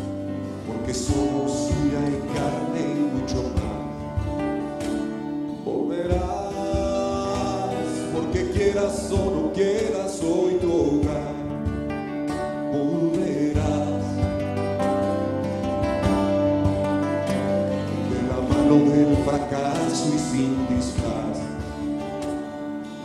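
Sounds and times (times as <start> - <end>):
plucked acoustic guitar: 0.0 - 23.0
man singing a slow ballad: 0.1 - 4.7, 5.5 - 15.3, 17.7 - 22.2.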